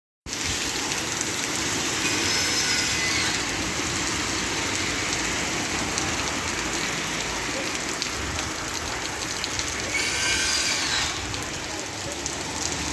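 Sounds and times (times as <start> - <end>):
heavy rain pouring: 0.3 - 12.9.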